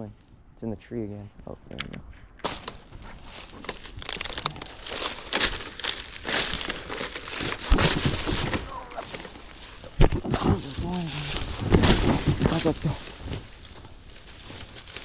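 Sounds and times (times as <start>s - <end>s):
leaves and branches rustling: 2.2s - 15.0s.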